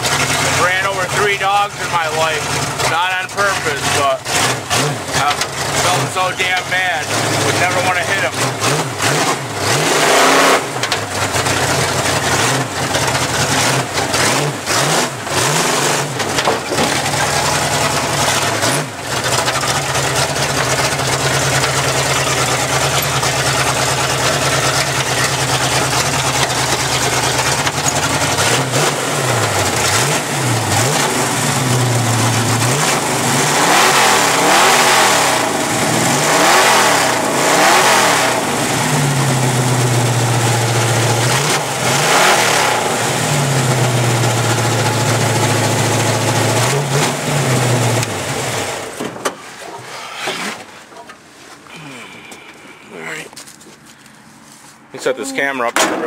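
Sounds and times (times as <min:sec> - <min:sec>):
truck engine idling and revving: 0:00.0 - 0:55.9.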